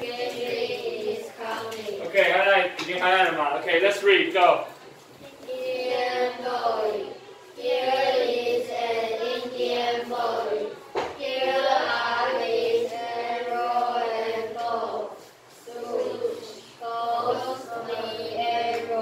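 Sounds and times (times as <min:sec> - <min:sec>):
children chanting text in unison: 0:00.0 - 0:03.6, 0:05.2 - 0:19.0.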